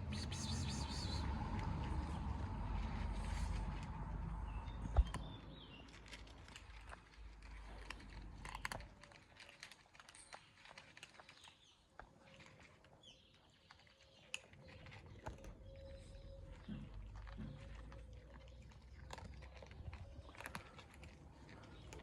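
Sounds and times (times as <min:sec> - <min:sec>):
cats chewing dry kibble: 0:00.0 - 0:22.0.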